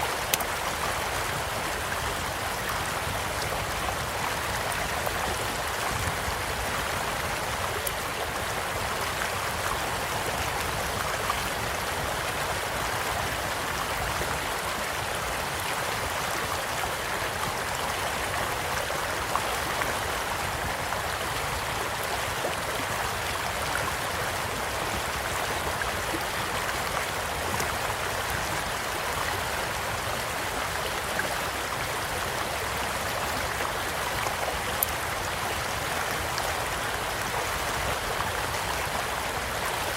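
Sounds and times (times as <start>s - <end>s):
gentle stream flowing: 0.0s - 39.9s.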